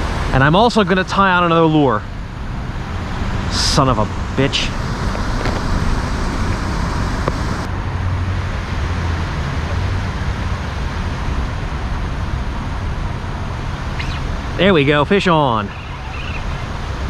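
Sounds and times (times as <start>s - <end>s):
low outdoor rumble with hiss: 0.0s - 17.0s.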